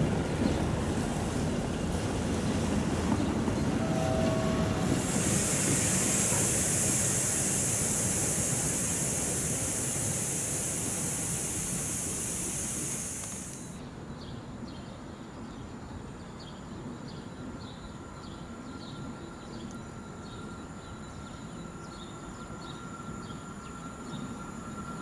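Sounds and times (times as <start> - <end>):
train rumble with high hiss: 0.0 - 25.0.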